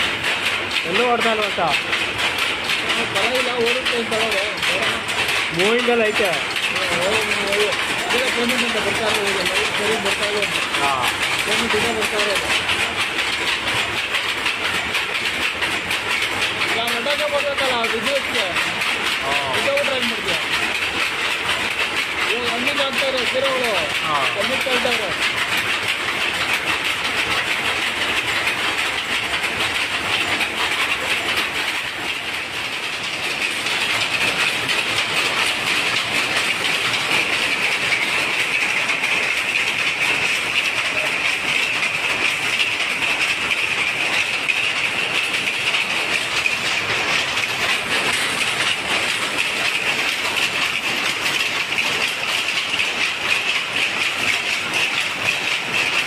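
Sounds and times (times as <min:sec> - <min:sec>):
power looms clattering: 0:00.0 - 0:56.0.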